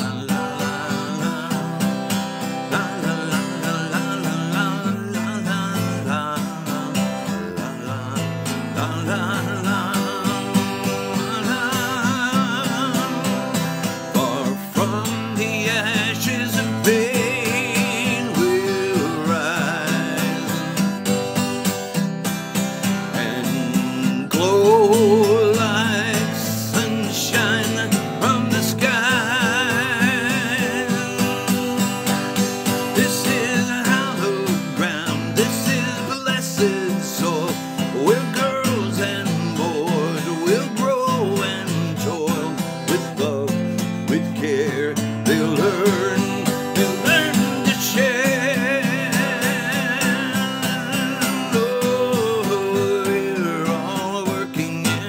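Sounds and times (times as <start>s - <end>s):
country song instrumental: 0.0s - 55.0s.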